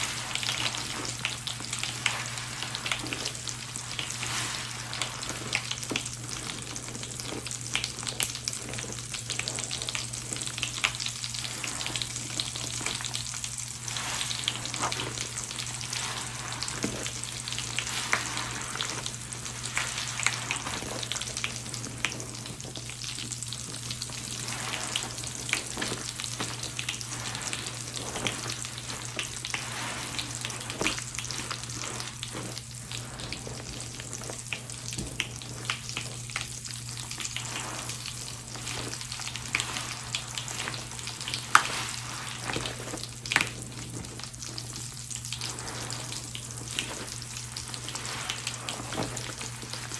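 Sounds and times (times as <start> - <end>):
foam fizzing crackle: 0.0 - 49.9
sponge squelching in suds: 0.0 - 49.9.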